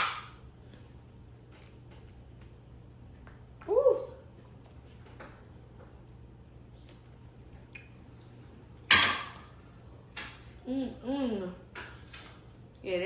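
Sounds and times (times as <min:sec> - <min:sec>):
steady low hum: 0:00.0 - 0:13.0
quiet eating noises: 0:00.2 - 0:13.0.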